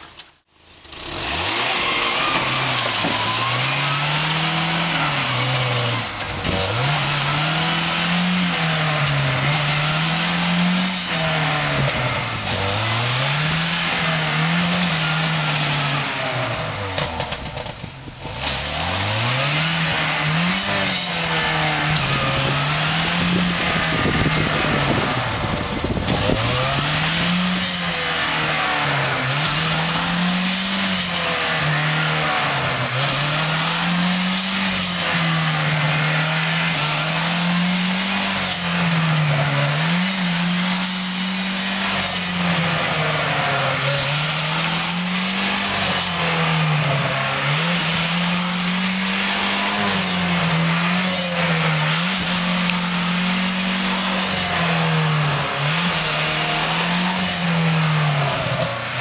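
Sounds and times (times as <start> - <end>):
truck engine revving: 0.0 - 59.0
wheels churning mud and water: 0.0 - 59.0.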